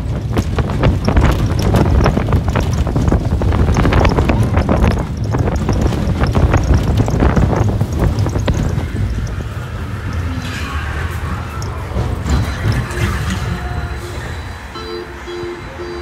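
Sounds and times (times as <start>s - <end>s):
wind buffeting microphone: 0.0s - 14.7s
roller coaster wheels rattling on track: 0.0s - 16.0s.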